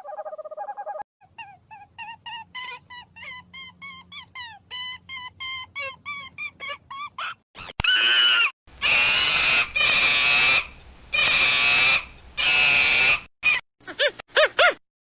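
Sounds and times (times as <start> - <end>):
monkey screeching: 1.2 - 13.6.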